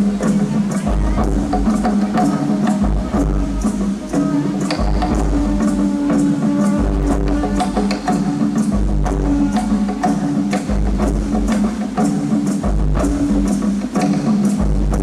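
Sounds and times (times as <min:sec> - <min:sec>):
wood block percussion: 0:00.0 - 0:15.0.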